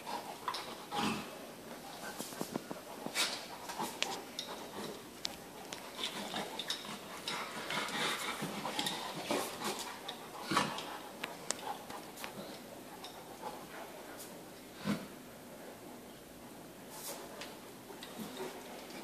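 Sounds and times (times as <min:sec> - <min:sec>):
dogs play-fighting: 0:00.0 - 0:19.0.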